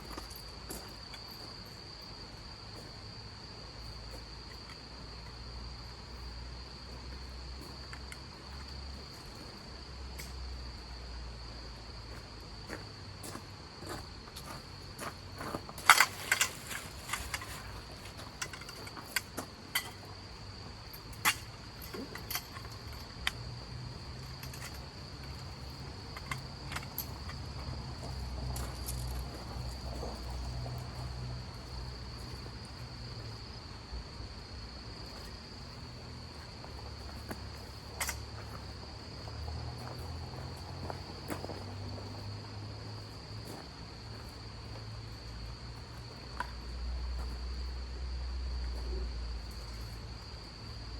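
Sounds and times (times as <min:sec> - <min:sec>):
crickets chirring: 0:00.0 - 0:50.9.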